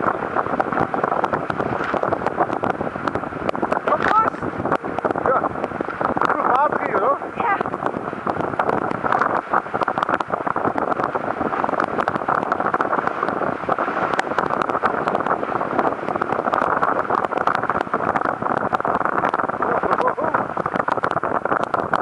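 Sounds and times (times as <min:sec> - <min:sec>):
water rushing along hulls: 0:00.0 - 0:22.0
wind buffeting microphone: 0:00.0 - 0:22.0.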